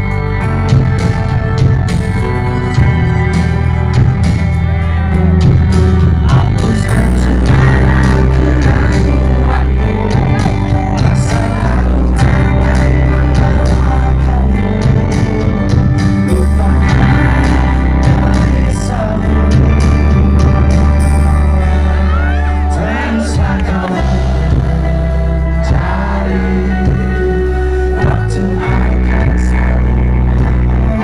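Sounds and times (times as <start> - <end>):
rock band playing live: 0.0 - 31.0
man singing: 5.1 - 31.0.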